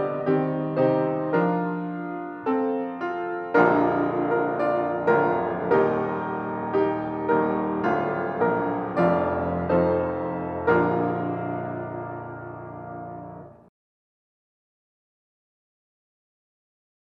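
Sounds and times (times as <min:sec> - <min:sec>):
piano playing slow hymn chords: 0:00.0 - 0:13.7.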